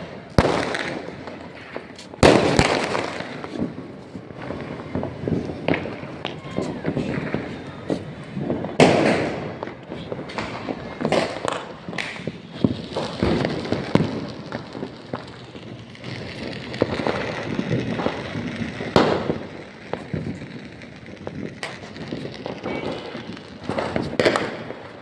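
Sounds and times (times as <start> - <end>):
fireworks and firecrackers banging: 0.0 - 25.0.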